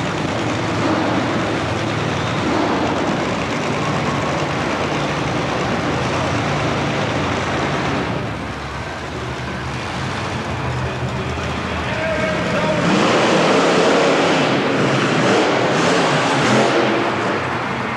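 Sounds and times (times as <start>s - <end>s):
monster truck engine roaring: 0.0s - 17.9s.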